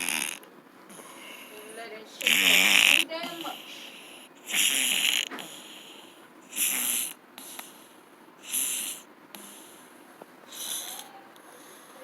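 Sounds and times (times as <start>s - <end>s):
cat snoring: 0.0s - 1.5s, 2.2s - 9.9s, 10.5s - 11.9s
cat breathing: 0.9s - 12.0s.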